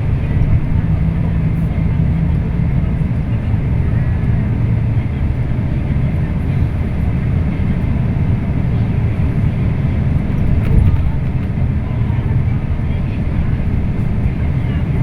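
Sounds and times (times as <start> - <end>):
bus diesel engine running: 0.0 - 15.0
road noise: 0.0 - 15.0.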